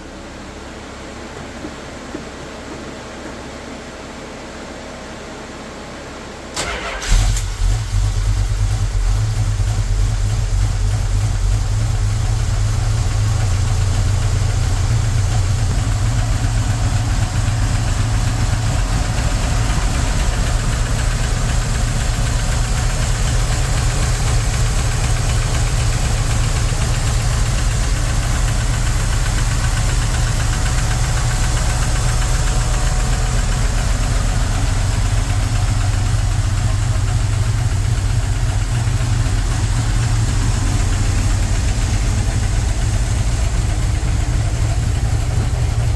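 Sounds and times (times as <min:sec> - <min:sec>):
car engine cranking and idling: 0:06.5 - 0:45.9.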